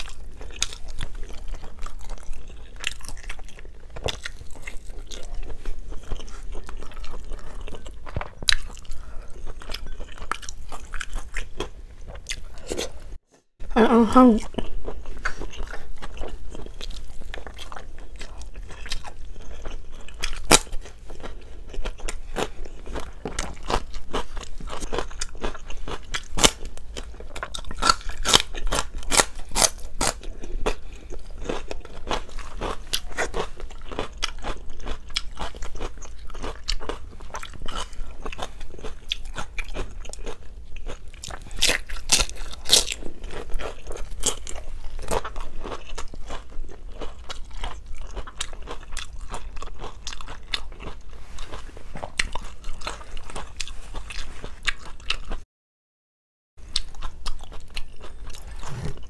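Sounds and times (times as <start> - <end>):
crunchy chewing: 0.0 - 13.0, 14.4 - 55.4, 56.6 - 59.0.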